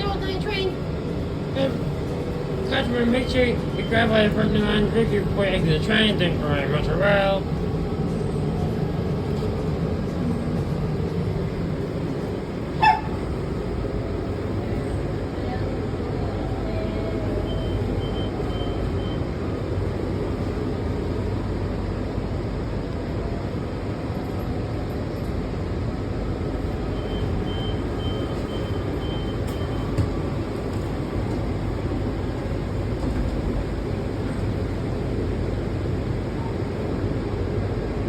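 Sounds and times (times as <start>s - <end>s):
train wheels and motors rumbling: 0.0s - 38.0s.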